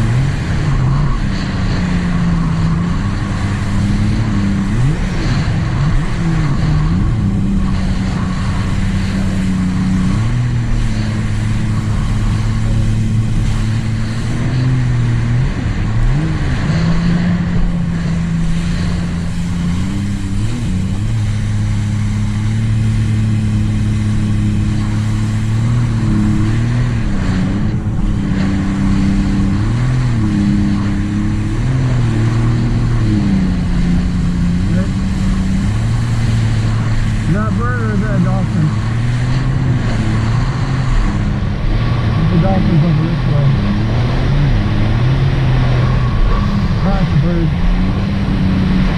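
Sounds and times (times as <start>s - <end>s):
personal watercraft engine: 0.0s - 48.9s
water and wind hiss: 0.0s - 48.9s.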